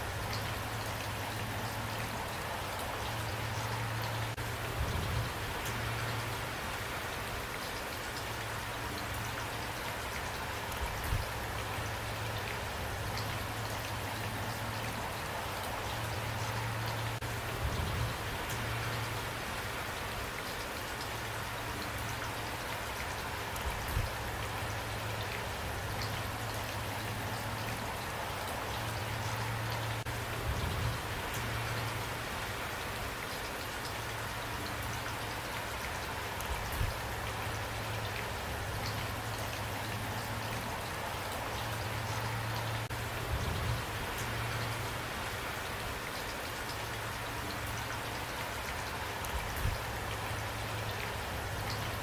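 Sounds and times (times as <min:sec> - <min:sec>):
steady rain with dripping: 0:00.0 - 0:52.0.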